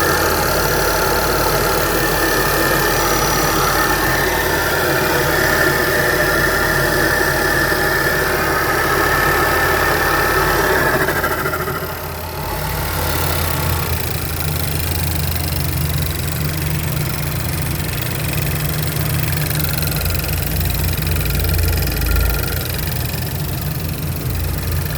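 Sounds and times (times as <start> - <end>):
car engine idling: 0.0 - 24.9
engine clicking noise: 0.0 - 24.9
higher engine noise: 0.0 - 24.9
steady low hum: 0.0 - 24.9.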